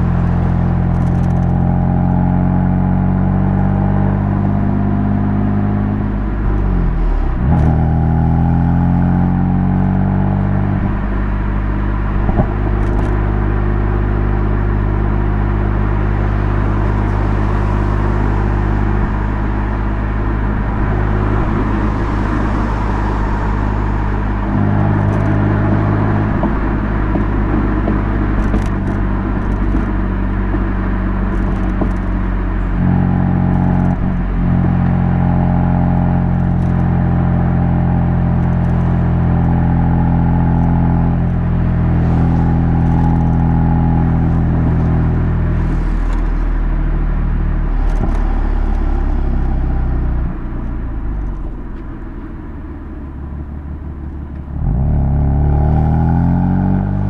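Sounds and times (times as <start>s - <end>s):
car engine idling: 5.7s - 57.0s.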